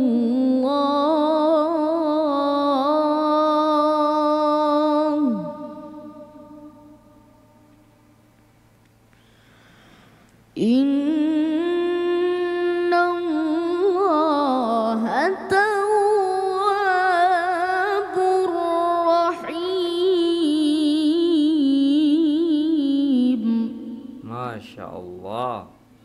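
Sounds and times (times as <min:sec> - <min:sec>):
boy reciting melodically: 0:00.0 - 0:07.2, 0:10.6 - 0:25.8.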